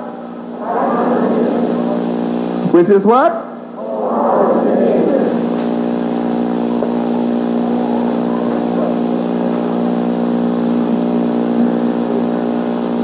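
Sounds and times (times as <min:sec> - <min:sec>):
loud steady drone: 0:00.0 - 0:13.0.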